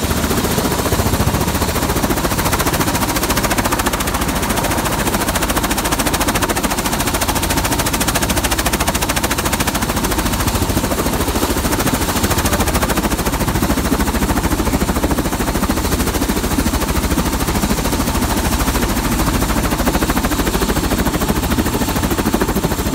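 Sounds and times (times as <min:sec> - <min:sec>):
helicopter rotor chopping: 0:00.0 - 0:22.9.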